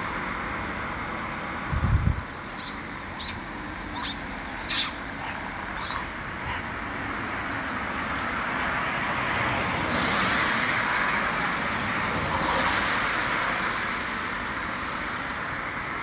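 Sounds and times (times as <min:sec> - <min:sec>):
road traffic rushing past: 0:00.0 - 0:16.0.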